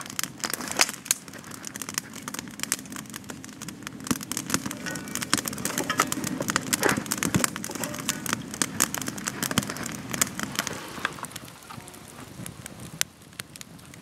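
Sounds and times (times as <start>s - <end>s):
campfire crackling and popping: 0.0s - 14.0s
stick stirring burning wood: 0.0s - 14.0s.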